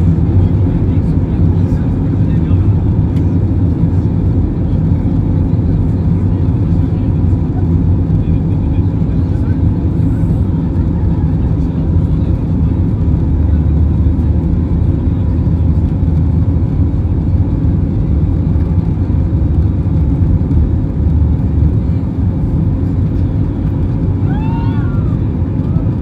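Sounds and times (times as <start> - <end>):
airliner cabin rumble while taxiing: 0.0 - 26.0.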